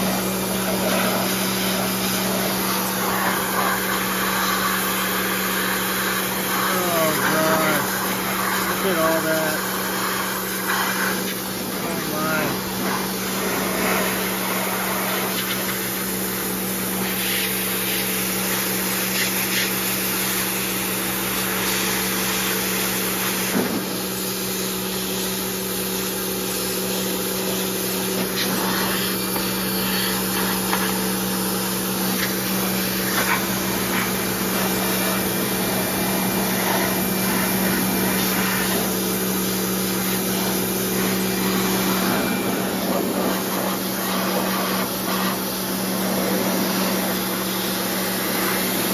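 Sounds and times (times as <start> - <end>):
pressure washer humming: 0.0 - 48.9
water jet spraying on metal: 0.0 - 48.9.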